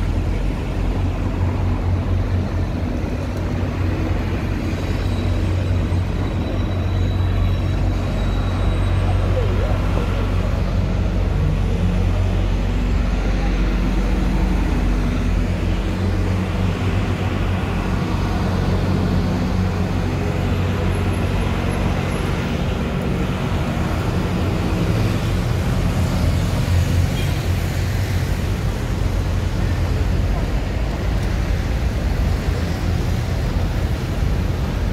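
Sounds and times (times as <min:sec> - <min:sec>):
cars and buses passing: 0:00.0 - 0:34.9
rumble of engines and tyres: 0:00.0 - 0:34.9.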